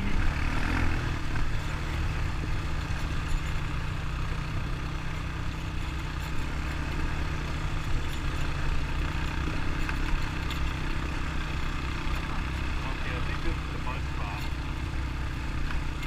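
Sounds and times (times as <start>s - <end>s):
atv engine droning: 0.0s - 16.0s.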